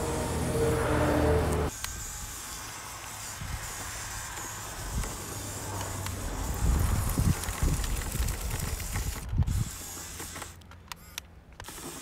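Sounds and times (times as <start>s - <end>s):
toy car motor and gearbox: 1.5s - 12.0s.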